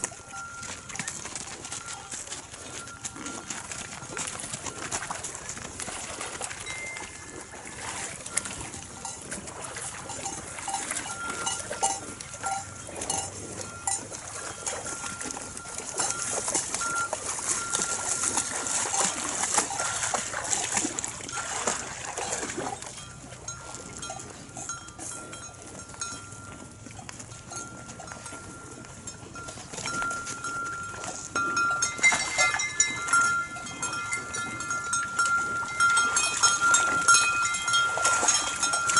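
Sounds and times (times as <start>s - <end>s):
hooves splashing in water: 0.0s - 38.9s.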